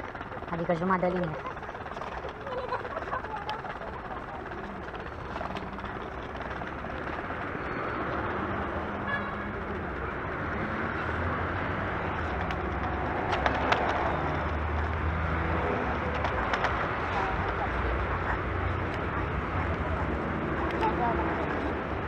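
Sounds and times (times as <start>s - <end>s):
scooter rolling over paving: 0.0s - 9.0s, 9.6s - 21.7s
street traffic: 0.0s - 22.0s.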